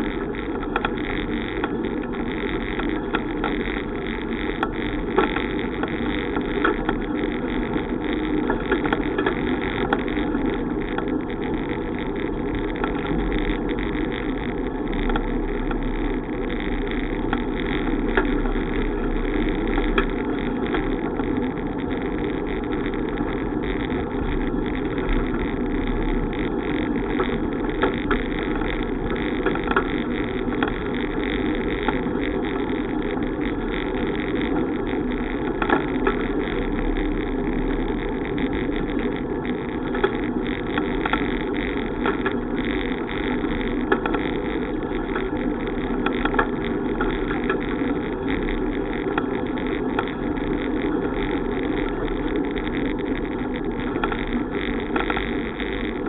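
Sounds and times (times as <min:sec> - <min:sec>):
bicycle tyre noise: 0:00.0 - 0:56.0
small clicks and knocks: 0:00.0 - 0:56.0
wind noise on microphone: 0:00.0 - 0:56.0.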